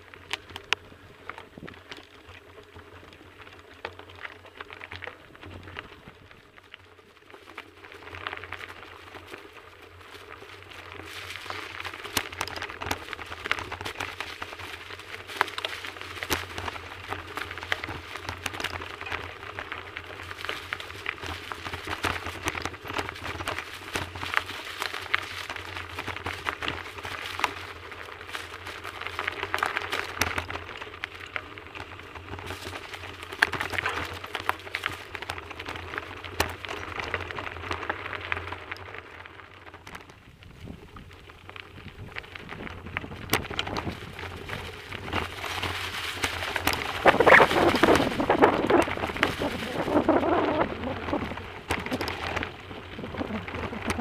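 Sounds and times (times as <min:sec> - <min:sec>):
bicycle tyres crackling over leaves: 0:00.0 - 0:54.0.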